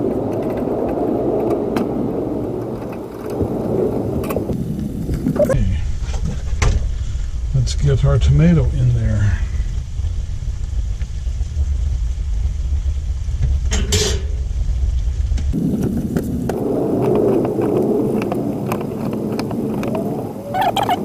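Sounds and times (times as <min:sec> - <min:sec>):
low rumble: 0:00.0 - 0:21.0
steady noise: 0:00.0 - 0:21.0.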